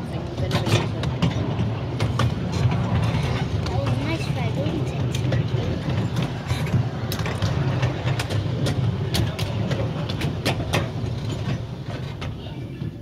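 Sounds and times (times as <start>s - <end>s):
rumble of train wheels: 0.0s - 13.0s
clicks over rail joints: 0.4s - 12.4s.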